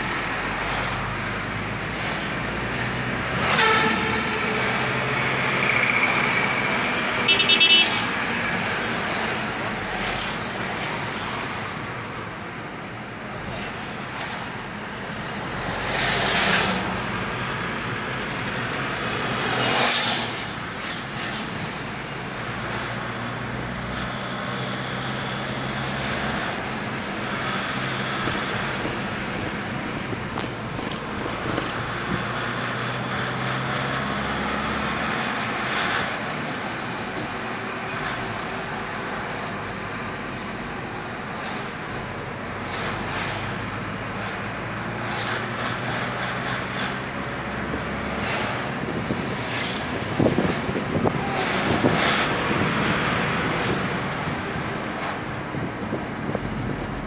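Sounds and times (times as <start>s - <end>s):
passing vehicles: 0.0s - 57.0s
road traffic rush: 0.0s - 57.0s.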